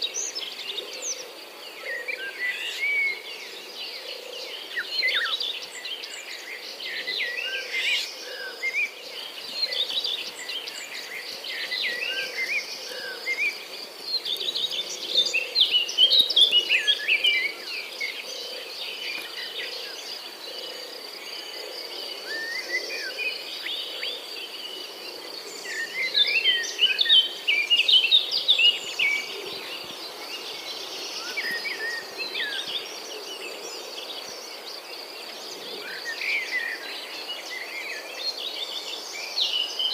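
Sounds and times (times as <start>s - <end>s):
birds chirping and warbling: 0.0s - 39.9s.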